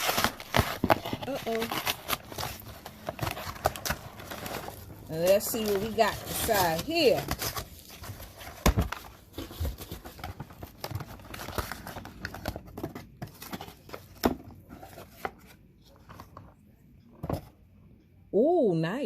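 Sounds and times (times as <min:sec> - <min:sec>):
packing material rustling: 0:00.0 - 0:16.4.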